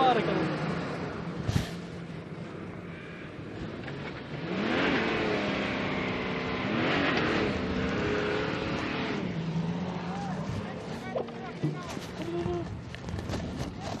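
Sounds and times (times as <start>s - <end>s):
off-road engine revving: 0.0s - 14.0s.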